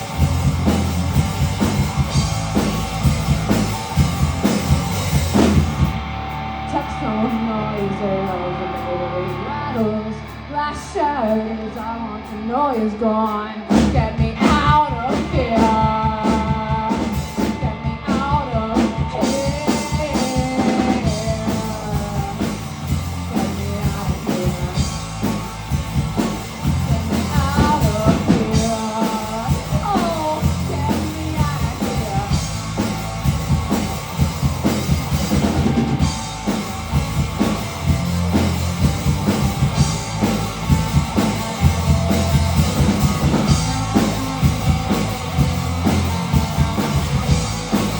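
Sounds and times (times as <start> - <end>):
drum kit steady beat: 0.0 - 8.4, 13.7 - 47.9
electric guitar: 0.0 - 47.9.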